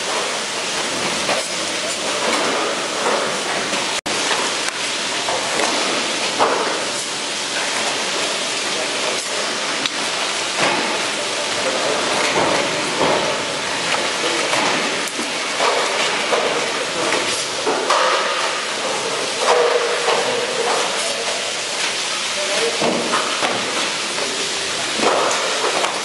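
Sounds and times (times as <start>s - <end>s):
loud steady hiss: 0.0s - 26.0s.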